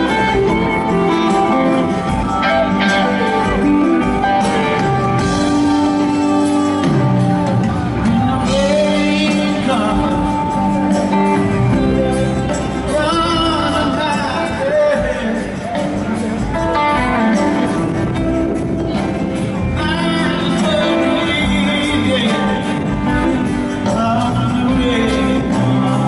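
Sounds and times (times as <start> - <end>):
live blues-rock band playing: 0.0 - 26.0.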